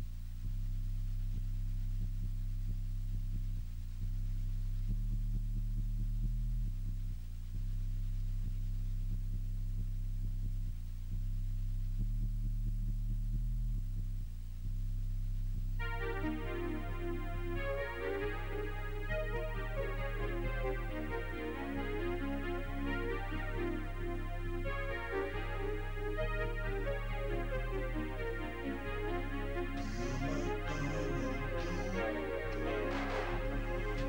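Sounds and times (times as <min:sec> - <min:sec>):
low electronic drone music: 0:00.0 - 0:34.0.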